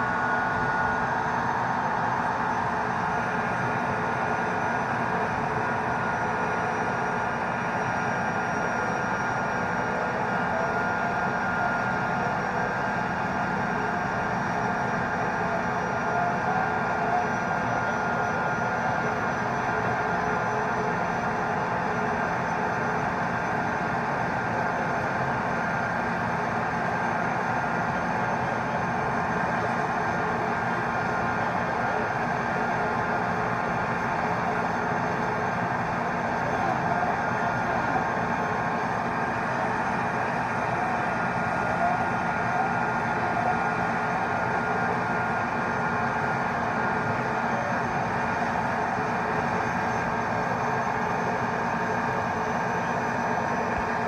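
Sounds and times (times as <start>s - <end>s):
turbine engine running: 0.0s - 54.0s.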